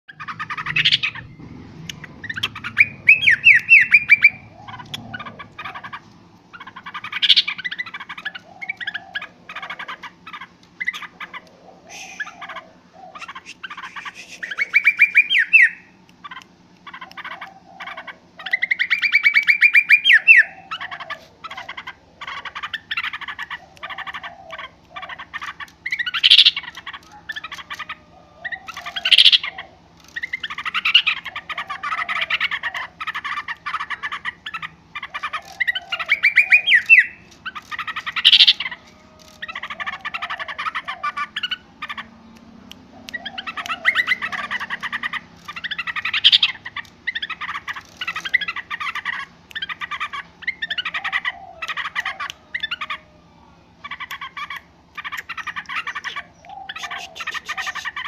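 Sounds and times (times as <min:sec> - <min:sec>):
bird calling noisily: 0:00.0 - 0:58.0
faint steady hum: 0:00.1 - 0:58.0.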